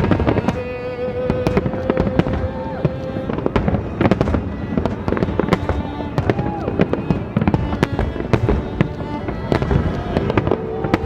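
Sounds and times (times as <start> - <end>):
classical violin music: 0.0 - 11.0
firework bangs and crackles: 0.0 - 11.0.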